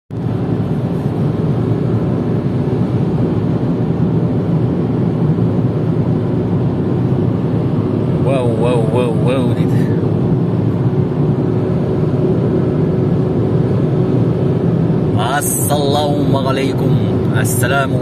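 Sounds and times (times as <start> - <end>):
engine hum: 0.1 - 18.0
in-cabin road and wind noise: 0.1 - 18.0.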